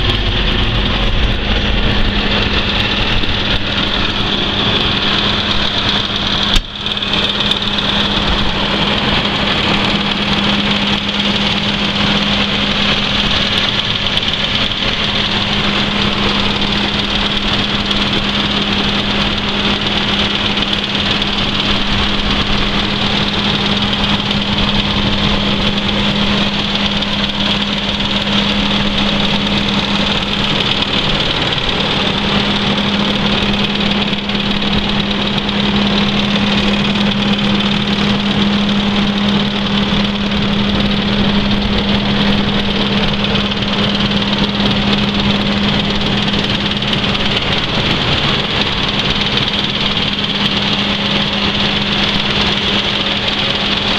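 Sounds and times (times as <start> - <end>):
tractor diesel engine idling: 0.0 - 53.9.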